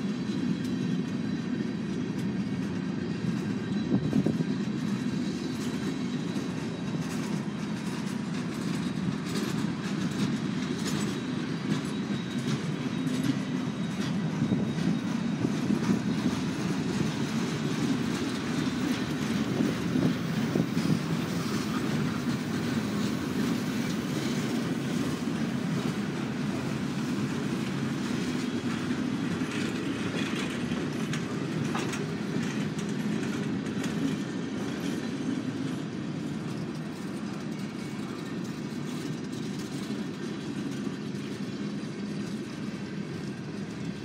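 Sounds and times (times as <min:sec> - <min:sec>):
train wheels rumbling on rails: 0:00.0 - 0:44.0
wheels clicking over rail joints: 0:01.9 - 0:44.0.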